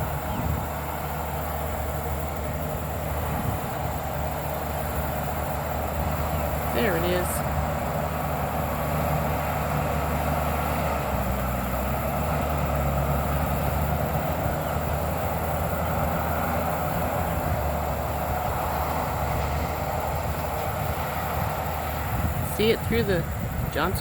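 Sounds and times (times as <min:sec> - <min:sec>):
distant bulldozer engine hum: 0:00.0 - 0:24.0
grinding rattle of bulldozer: 0:00.0 - 0:24.0.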